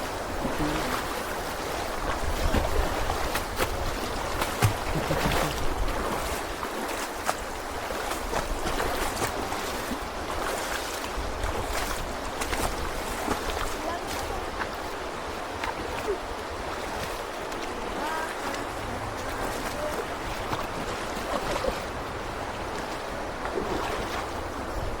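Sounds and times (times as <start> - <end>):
river water rushing: 0.0 - 25.0
small water splashes: 0.0 - 25.0
wind rumble on microphone: 0.0 - 25.0.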